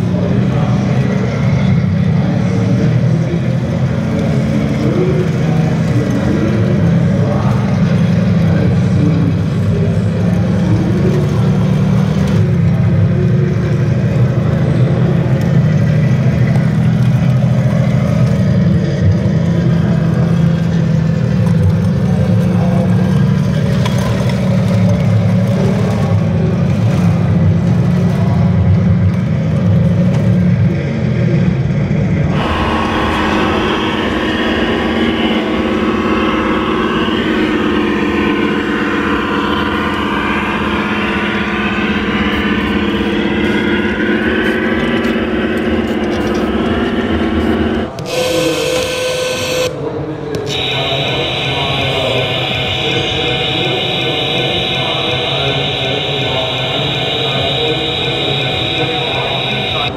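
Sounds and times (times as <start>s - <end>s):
model tank engine rumble: 0.0s - 59.9s.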